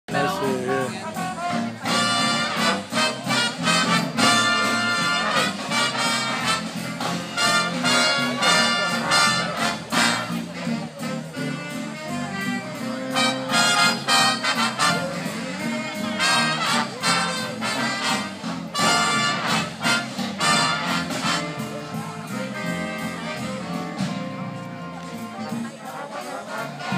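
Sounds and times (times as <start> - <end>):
big band swing jazz: 0.1 - 26.9
punchy brass chords: 0.1 - 26.9.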